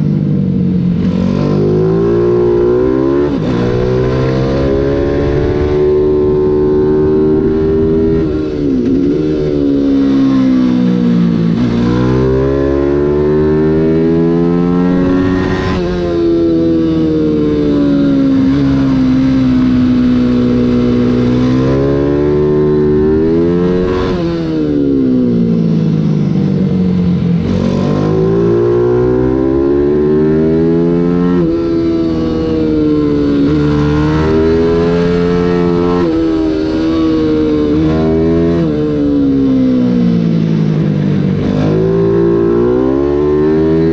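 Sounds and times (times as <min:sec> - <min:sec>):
motorbike engine revving: 0:00.0 - 0:43.9.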